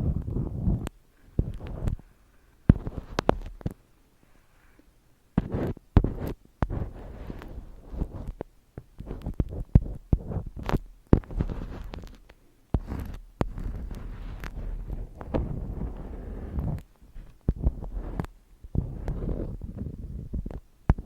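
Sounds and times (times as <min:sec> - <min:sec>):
rustling: 0:00.0 - 0:20.7.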